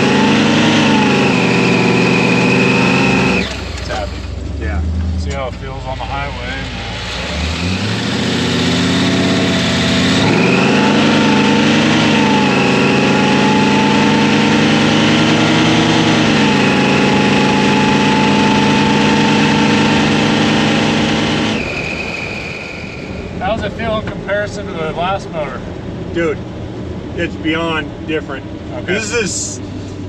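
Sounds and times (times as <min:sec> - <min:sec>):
supercharged engine revving: 0:00.0 - 0:26.4.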